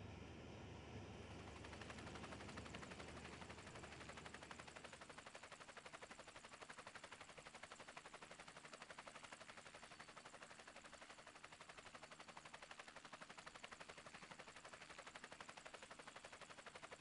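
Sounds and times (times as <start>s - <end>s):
helicopter rotor blades chopping: 1.3s - 17.0s.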